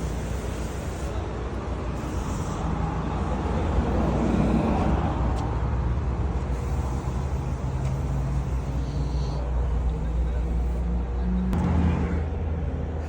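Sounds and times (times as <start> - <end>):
vehicle engine idling: 0.0 - 10.8.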